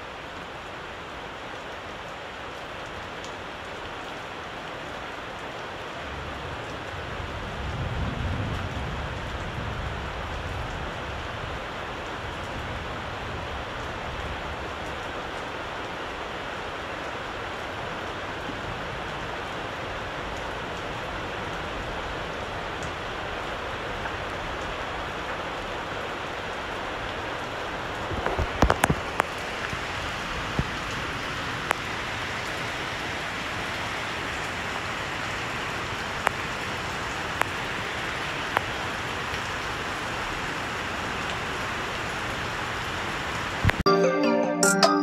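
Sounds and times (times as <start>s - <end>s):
heavy rain on plants and paving: 0.0s - 43.8s.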